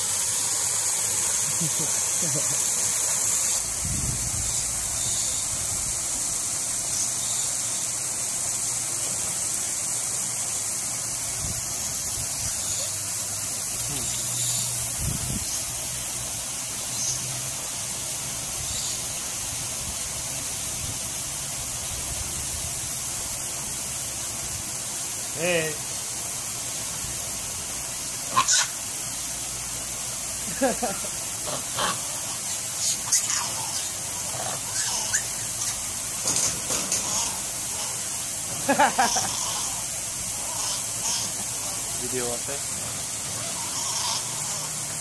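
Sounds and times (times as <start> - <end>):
steady high hiss: 0.0 - 45.0.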